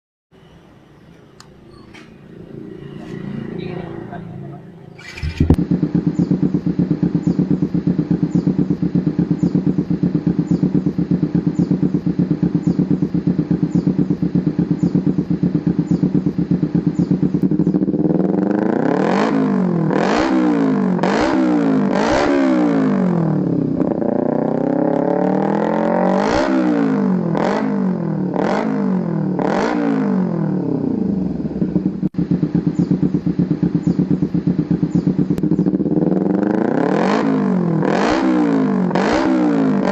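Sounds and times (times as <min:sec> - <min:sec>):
motorcycle engine idling and revving: 0:00.3 - 0:39.9.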